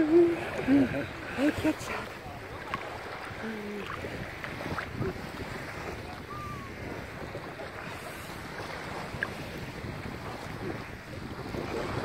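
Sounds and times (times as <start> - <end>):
small waves lapping: 0.0 - 12.0
wind on microphone: 0.0 - 12.0.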